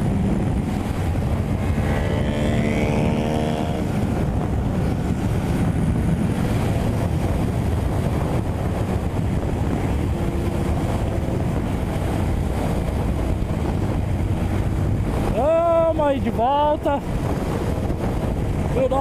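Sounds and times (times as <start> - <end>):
faint motorcycle engine: 0.0 - 15.6
wind rush on microphone: 0.0 - 19.0.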